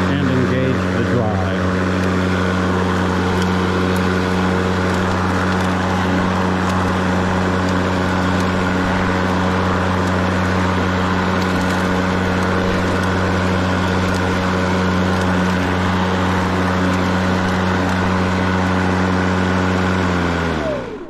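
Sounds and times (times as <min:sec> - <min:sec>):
lawn mower running: 0:00.0 - 0:21.0.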